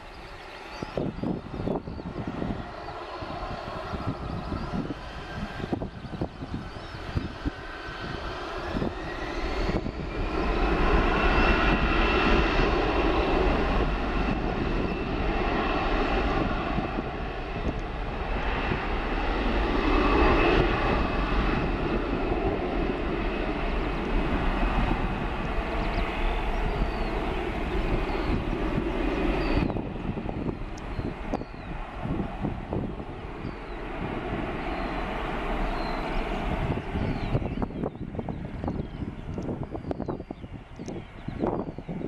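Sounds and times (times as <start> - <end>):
jet engines spooling up: 0.0 - 42.0.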